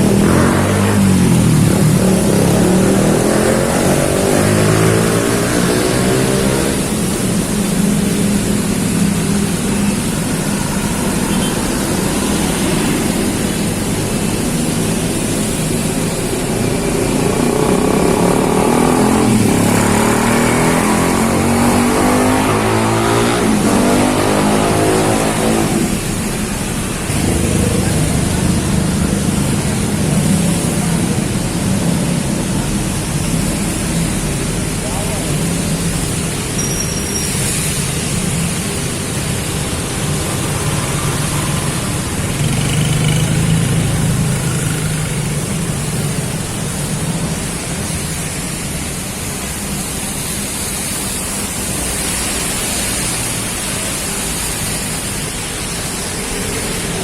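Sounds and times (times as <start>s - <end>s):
heavy rain hiss: 0.0s - 57.0s
vehicle engines passing: 0.0s - 57.0s.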